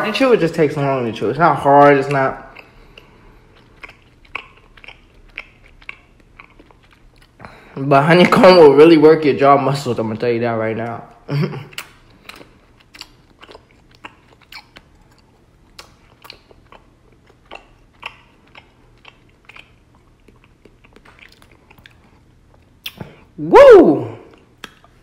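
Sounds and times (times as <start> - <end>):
person chewing with smacking: 1.3 - 8.5, 10.8 - 23.4, 24.2 - 25.0.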